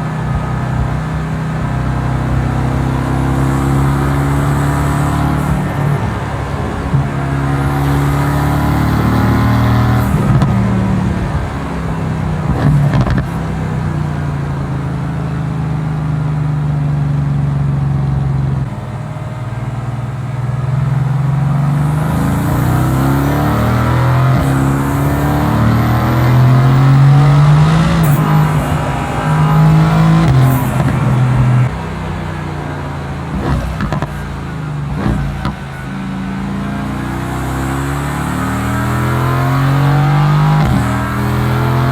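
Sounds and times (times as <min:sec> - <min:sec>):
car engine accelerating: 0:00.0 - 0:41.9
exhaust cracks: 0:00.0 - 0:41.9.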